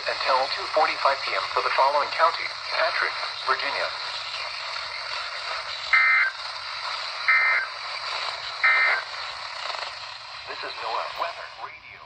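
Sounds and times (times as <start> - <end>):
radio static hiss: 0.0 - 12.0
digital data tone bursts: 0.1 - 11.8.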